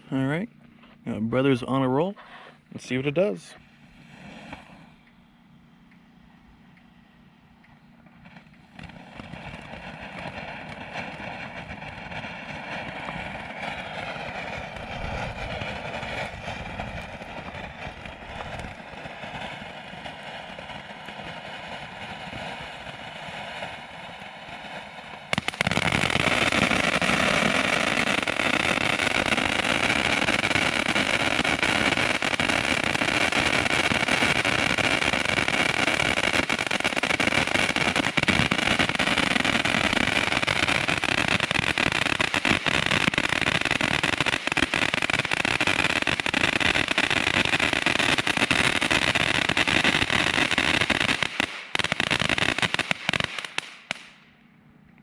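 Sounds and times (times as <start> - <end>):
firework fountain hissing and crackling: 2.8 - 5.1, 8.2 - 54.2.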